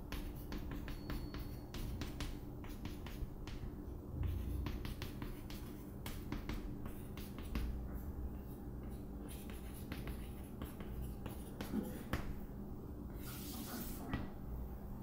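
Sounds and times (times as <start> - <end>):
chalk tapping on chalkboard: 0.0 - 12.4
faint low hum: 0.0 - 15.0.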